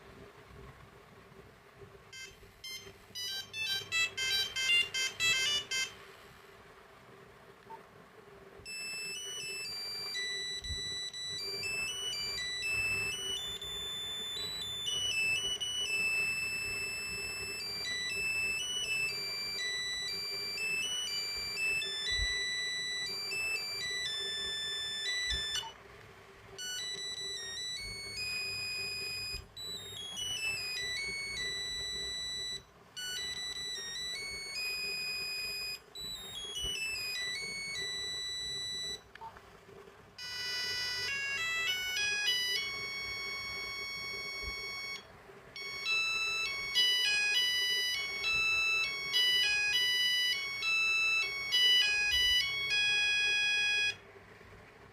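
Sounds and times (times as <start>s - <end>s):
monophonic beeping ringtone melody: 2.1s - 6.0s, 8.6s - 25.8s, 26.6s - 39.1s, 40.2s - 54.0s.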